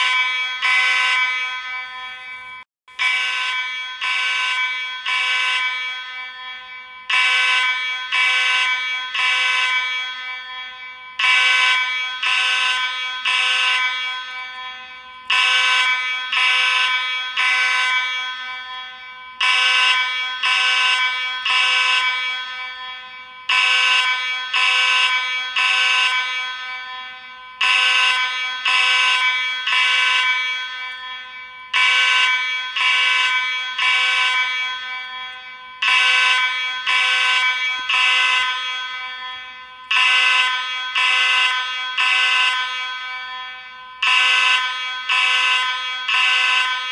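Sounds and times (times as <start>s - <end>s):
fire alarm horn blasts: 0.0s - 46.9s.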